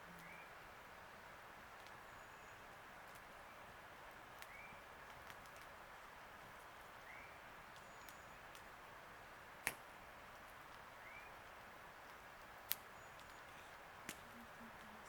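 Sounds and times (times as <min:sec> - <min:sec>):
faint steady hiss: 0:00.0 - 0:15.0
campfire wood popping: 0:00.1 - 0:02.1, 0:02.7 - 0:15.0.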